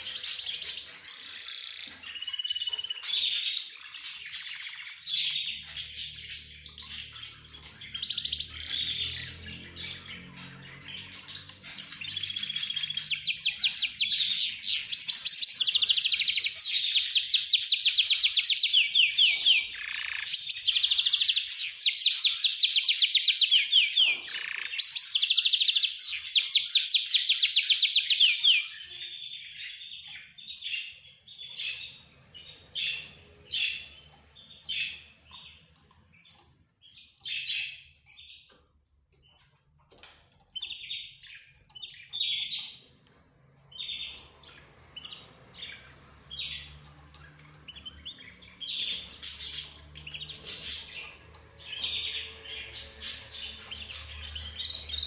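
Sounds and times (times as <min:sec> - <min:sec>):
cage birds chirping: 0:00.0 - 0:55.0.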